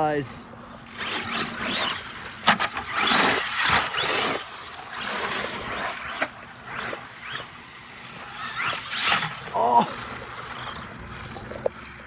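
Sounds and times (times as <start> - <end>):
tyres on dirt and gravel: 0.0 - 12.0
electric motor whining: 0.8 - 12.0.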